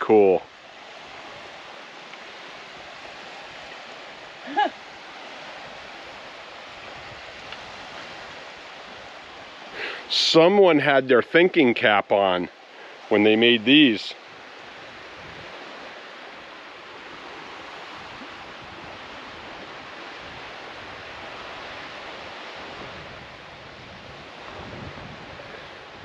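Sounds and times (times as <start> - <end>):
surf washing on beach: 0.0 - 26.0.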